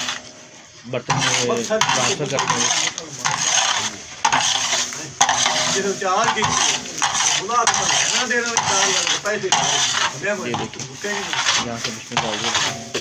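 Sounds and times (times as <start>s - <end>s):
hot pan sizzling: 0.0s - 13.0s
spatula scraping a pan: 0.0s - 13.0s.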